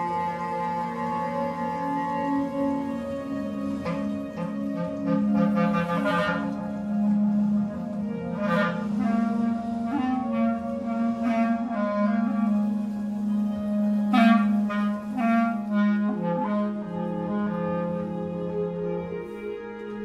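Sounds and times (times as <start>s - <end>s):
clarinet melody: 0.0s - 20.0s
low sustained electronic tone: 0.0s - 20.0s.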